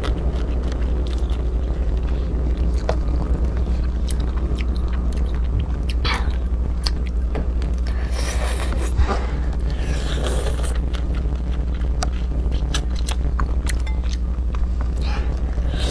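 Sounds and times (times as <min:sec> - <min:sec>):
biting and chewing crabs: 0:00.0 - 0:15.9
steady low hum: 0:00.0 - 0:15.9.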